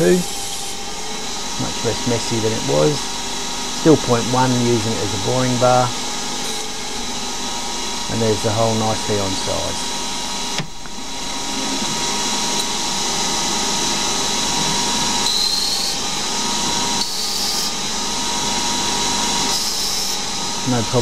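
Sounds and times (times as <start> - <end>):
lathe spindle whining: 0.0 - 21.0.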